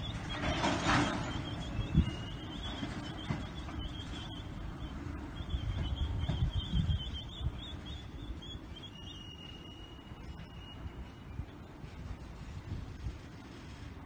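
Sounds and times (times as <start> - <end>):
birds chirping: 0.0 - 11.9
freight train rolling on track: 0.0 - 14.0.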